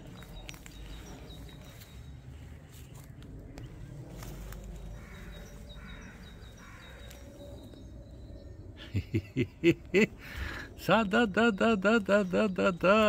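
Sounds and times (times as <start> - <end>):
distant bird calls: 0.0 - 13.0.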